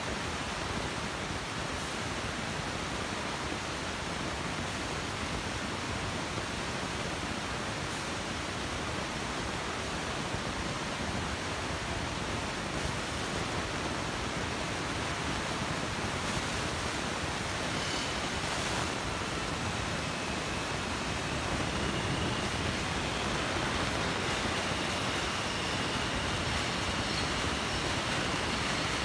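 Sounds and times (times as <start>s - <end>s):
faint high motor whine: 0.0s - 29.0s
subway train rumbling: 0.0s - 29.0s.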